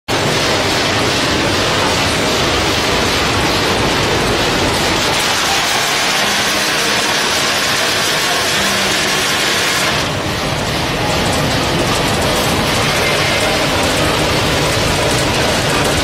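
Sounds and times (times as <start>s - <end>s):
roasting machinery whooshing hum: 0.1s - 16.0s.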